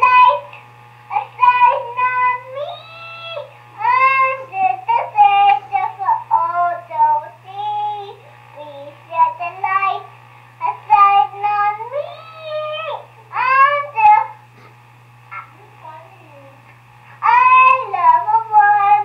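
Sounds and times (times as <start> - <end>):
child singing: 0.0 - 0.5, 1.1 - 14.4, 17.2 - 19.0
steady low hum: 0.0 - 19.0.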